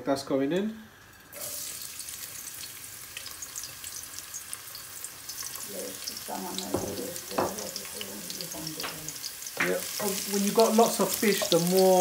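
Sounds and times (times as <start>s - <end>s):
garlic sizzling in hot oil: 0.6s - 12.0s.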